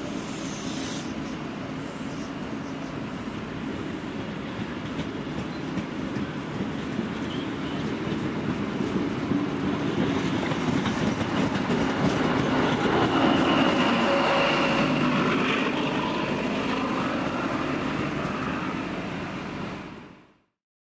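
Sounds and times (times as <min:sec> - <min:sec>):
train wheels rumbling on rails: 0:00.0 - 0:20.0
diesel locomotive whine: 0:00.0 - 0:20.5.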